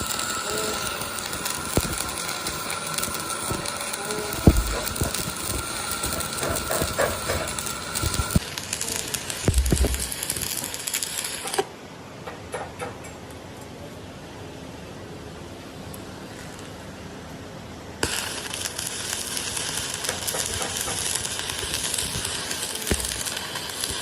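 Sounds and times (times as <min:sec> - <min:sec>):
steady background whine: 0:00.0 - 0:24.0.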